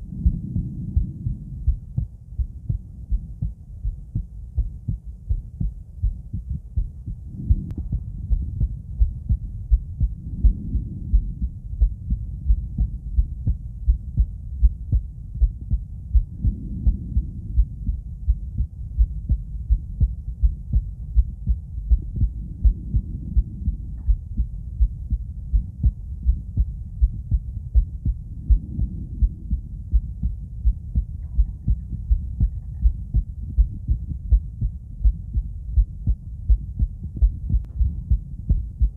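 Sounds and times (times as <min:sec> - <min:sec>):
heartbeat through stethoscope: 0:00.0 - 0:38.9
soft low rushing: 0:00.0 - 0:38.9.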